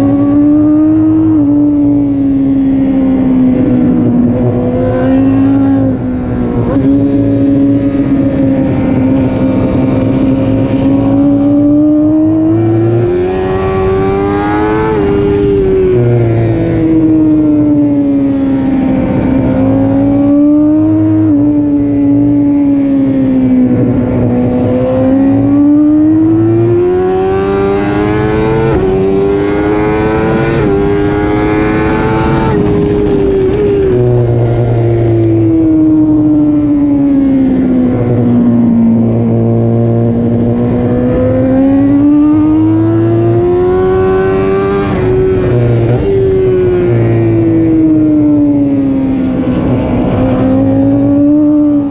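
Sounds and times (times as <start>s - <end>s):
motorcycle engine at high revs: 0.0s - 51.9s
wind rush: 0.0s - 51.9s.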